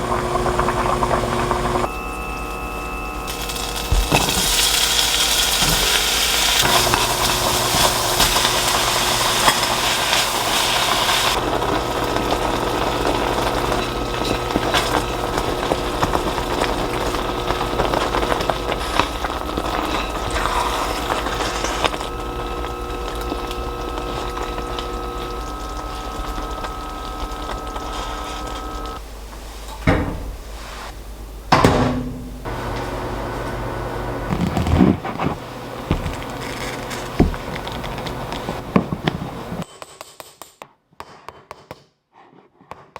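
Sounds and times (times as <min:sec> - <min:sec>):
water running hard: 0:00.0 - 0:29.3, 0:30.4 - 0:39.6
appliance hum: 0:00.0 - 0:39.6.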